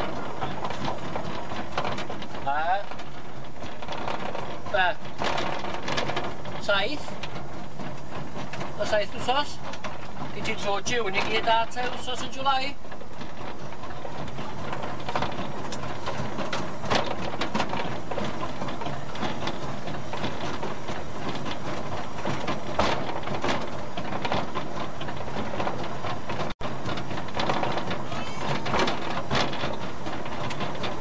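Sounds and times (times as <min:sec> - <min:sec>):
steam locomotive running: 0:00.0 - 0:31.0
wheels clicking and knocking on track: 0:00.0 - 0:31.0.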